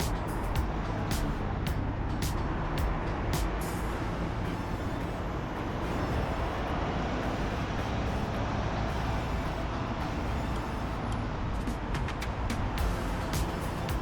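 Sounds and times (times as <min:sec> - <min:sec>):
road traffic engine rumble: 0:00.0 - 0:14.0
tyre noise of passing vehicles: 0:00.0 - 0:14.0.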